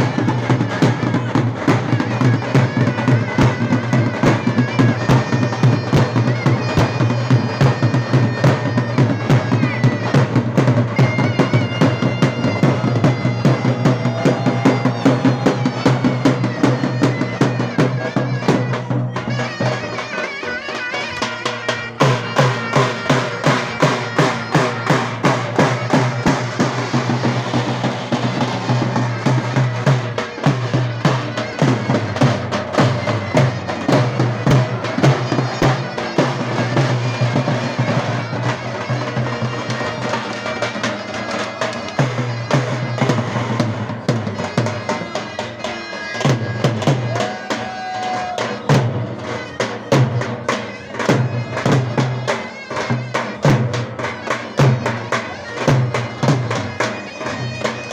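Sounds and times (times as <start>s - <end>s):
davul drum strokes: 0.0s - 57.9s
zurna melody: 0.0s - 57.9s.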